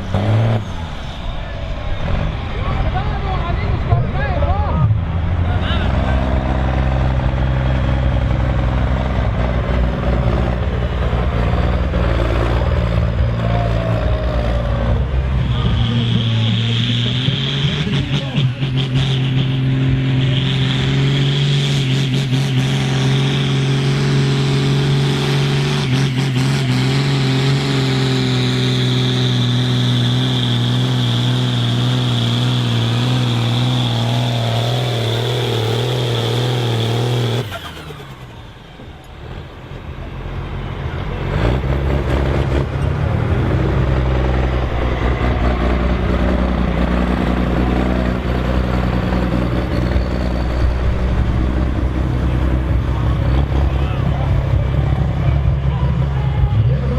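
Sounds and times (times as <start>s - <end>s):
deep engine rumble: 0.0s - 56.9s
diesel engine running hard: 0.0s - 56.9s.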